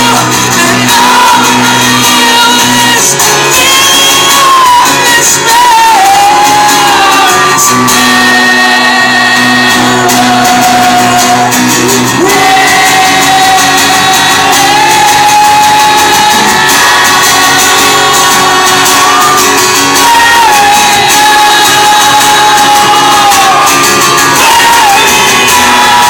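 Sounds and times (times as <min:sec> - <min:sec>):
man singing: 0:00.0 - 0:26.0
strummed acoustic guitar: 0:00.0 - 0:26.0.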